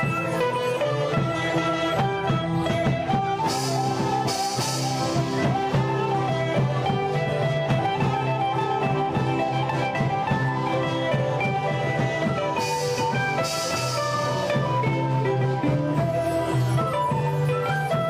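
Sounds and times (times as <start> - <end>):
band music playing: 0.0 - 18.0.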